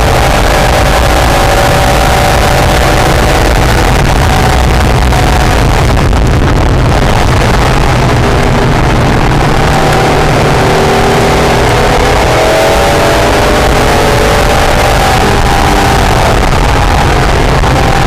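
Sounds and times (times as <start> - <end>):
car engine pulling hard: 0.0 - 18.0
wind and road noise: 0.0 - 18.0.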